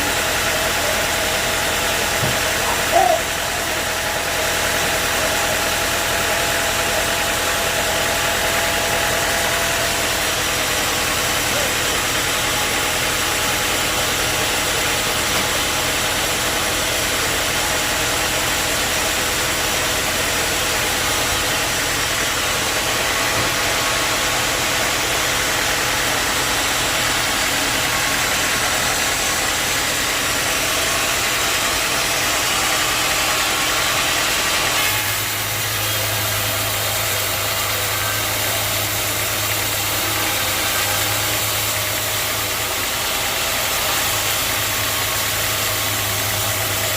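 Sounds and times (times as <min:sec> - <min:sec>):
sawmill machinery drone: 0:00.0 - 0:46.9.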